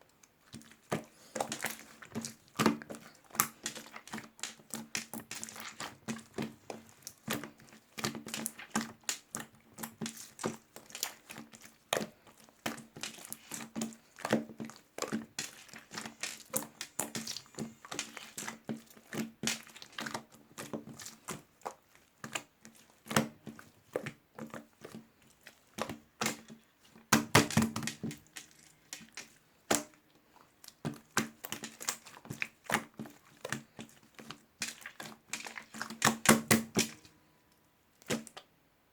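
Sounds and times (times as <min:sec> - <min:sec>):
crinkling and crackling handling: 0:00.0 - 0:38.5.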